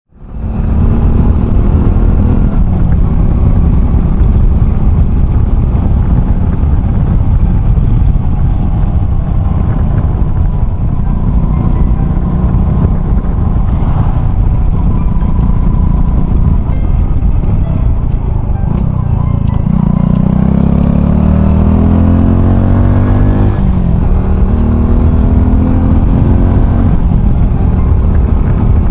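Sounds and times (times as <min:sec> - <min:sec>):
motorcycle engine running: 0:00.1 - 0:28.9
wind rumble on microphone: 0:00.1 - 0:28.9.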